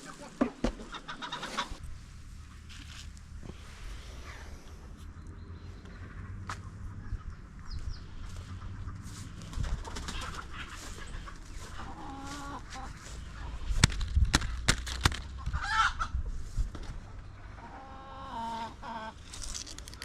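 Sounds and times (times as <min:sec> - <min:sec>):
chickens clucking: 0:00.0 - 0:02.7, 0:05.8 - 0:19.3.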